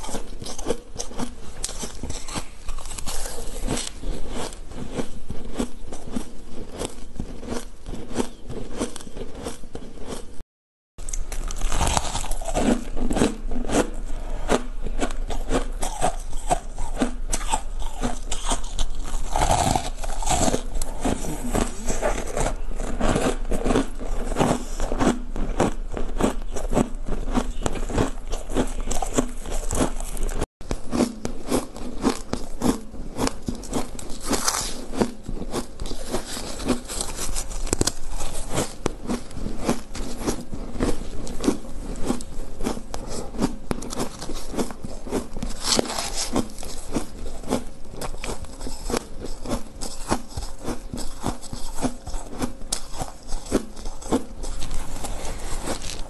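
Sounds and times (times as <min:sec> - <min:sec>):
chewing crunchy ice: 0:00.0 - 0:10.4, 0:11.0 - 0:56.0.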